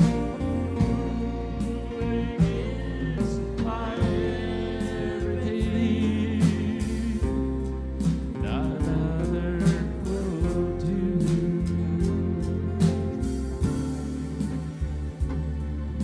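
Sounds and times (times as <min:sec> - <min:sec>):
people singing: 0:00.0 - 0:12.9
acoustic guitar: 0:00.0 - 0:16.0
bass guitar: 0:00.0 - 0:16.0
drum kit: 0:00.0 - 0:16.0.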